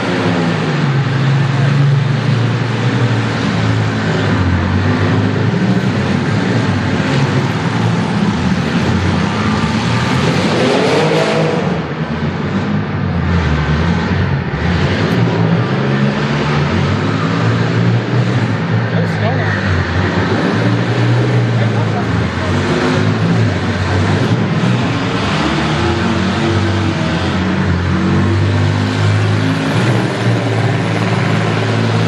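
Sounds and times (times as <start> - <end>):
car engine revving: 0.0 - 32.0
car engines running: 0.0 - 32.0.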